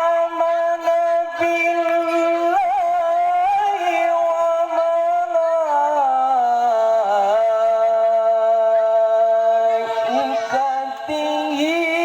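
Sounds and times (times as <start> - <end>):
person chanting melodically: 0.0 - 12.0.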